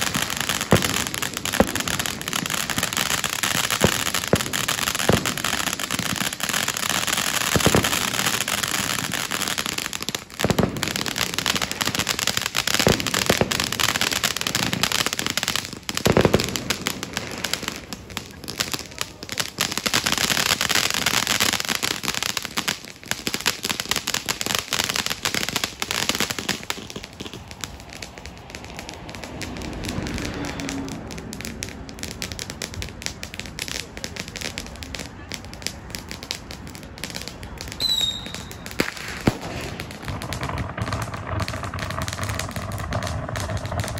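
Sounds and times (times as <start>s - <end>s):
firework bangs: 0.0s - 43.9s
fireworks crackling hiss: 0.0s - 43.9s.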